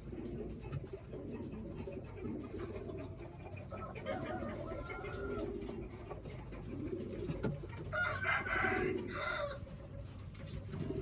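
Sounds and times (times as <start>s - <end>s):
chicken calling: 0.0s - 11.0s
pigeons cooing: 0.0s - 11.0s.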